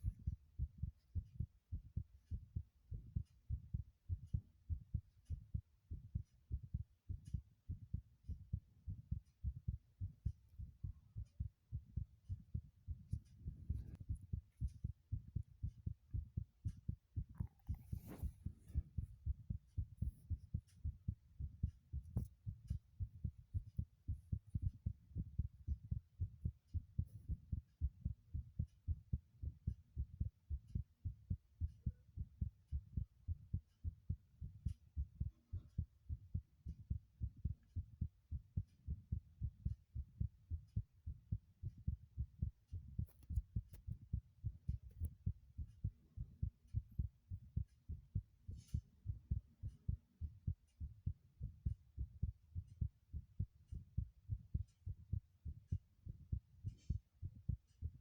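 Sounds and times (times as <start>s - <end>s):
heartbeat thumps: 0.0s - 58.0s.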